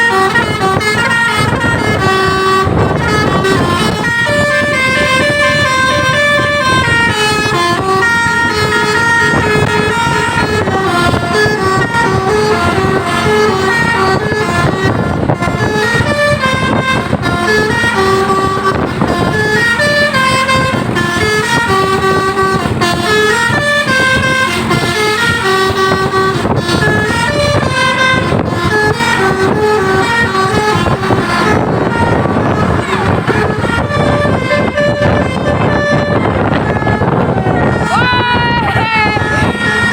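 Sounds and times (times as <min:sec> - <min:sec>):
musical air horn melody: 0:00.0 - 0:39.9
steady noisy rumble: 0:00.0 - 0:39.9.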